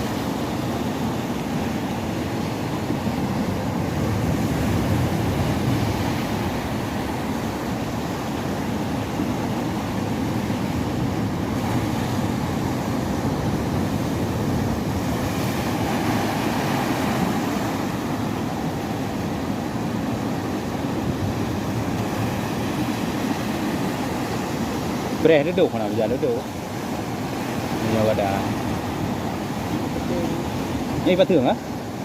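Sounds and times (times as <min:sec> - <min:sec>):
boat at sea rushing: 0:00.0 - 0:32.0.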